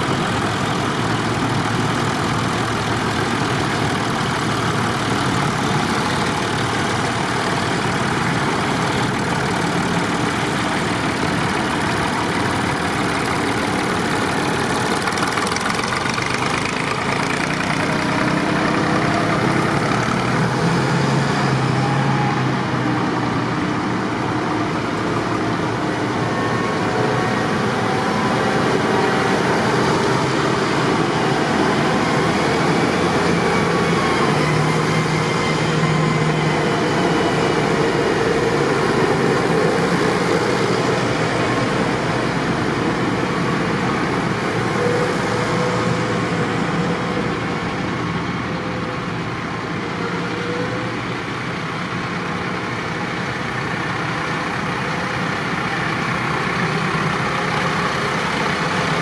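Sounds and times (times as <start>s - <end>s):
tractor engines droning: 0.0s - 59.0s.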